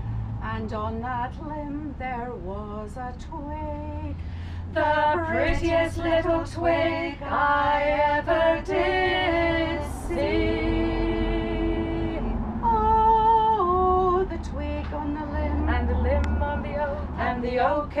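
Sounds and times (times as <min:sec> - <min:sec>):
woman singing unaccompanied: 0:00.4 - 0:18.0.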